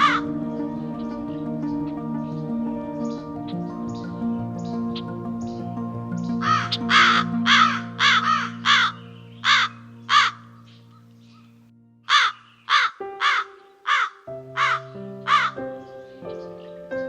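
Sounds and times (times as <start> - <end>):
bird calling: 0.0 - 16.8
background music: 0.0 - 17.0.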